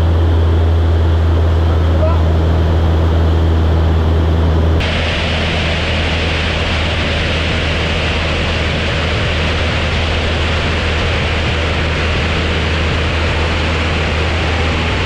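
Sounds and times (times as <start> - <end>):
aircraft engine and propeller droning: 0.0 - 15.0
wind rushing over camera: 2.3 - 15.0.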